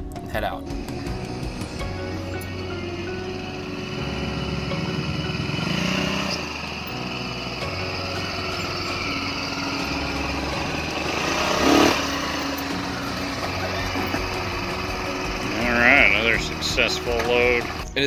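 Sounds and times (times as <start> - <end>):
go-kart engine revving: 0.6 - 18.0.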